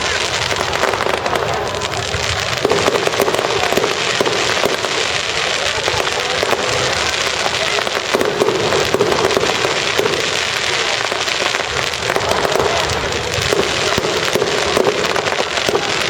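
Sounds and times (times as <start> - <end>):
crowd chatter: 0.0 - 16.0
fireworks crackling and banging: 0.0 - 16.0.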